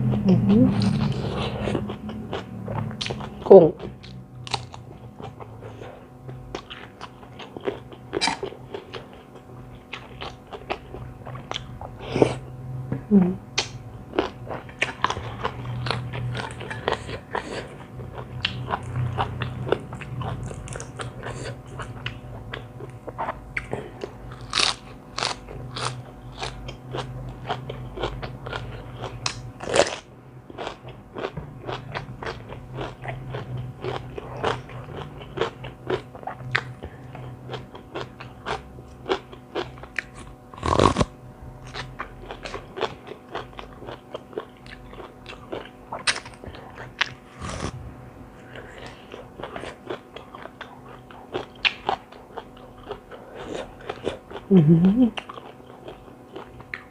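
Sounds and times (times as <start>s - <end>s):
crunching and chewing food: 0.0s - 12.5s, 13.6s - 56.9s.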